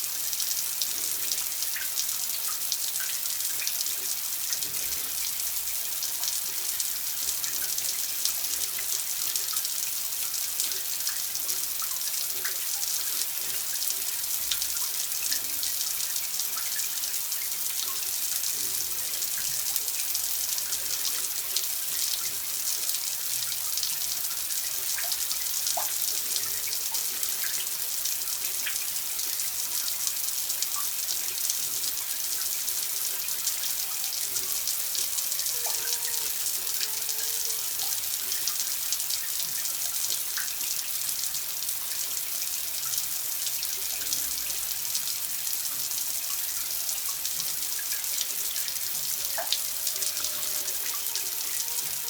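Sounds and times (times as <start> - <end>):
water running in a stream: 0.0 - 52.0.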